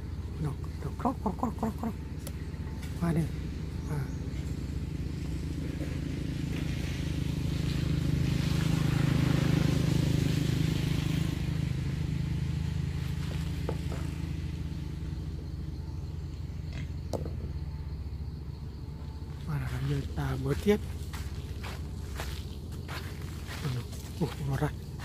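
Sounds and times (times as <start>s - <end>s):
vehicle engine passing: 0.0s - 25.0s.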